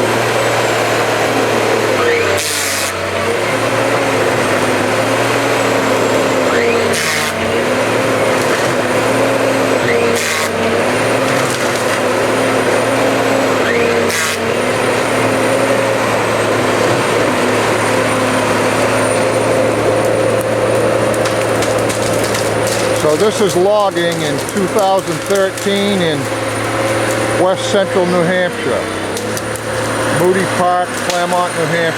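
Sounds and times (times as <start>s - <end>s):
diesel engine under hydraulic load: 0.0s - 31.9s
wood splintering cracks: 0.0s - 31.9s.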